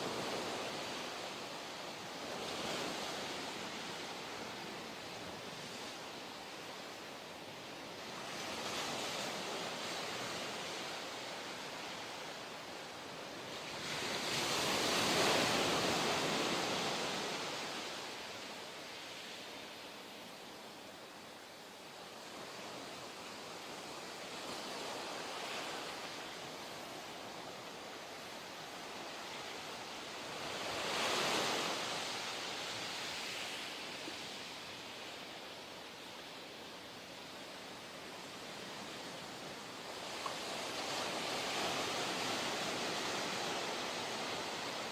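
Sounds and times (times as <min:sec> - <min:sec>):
ocean surf: 0:00.0 - 0:44.9.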